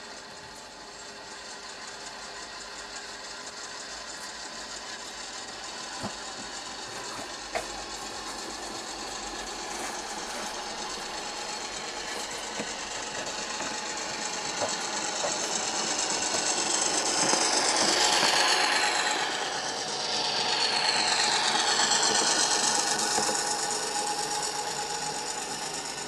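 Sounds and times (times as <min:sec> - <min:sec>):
model railcar whirr and rattle: 0:00.0 - 0:26.0.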